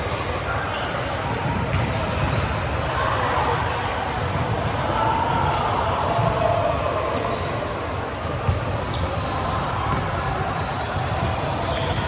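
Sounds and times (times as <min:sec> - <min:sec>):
players' voices in echoing gym: 0:00.0 - 0:12.0.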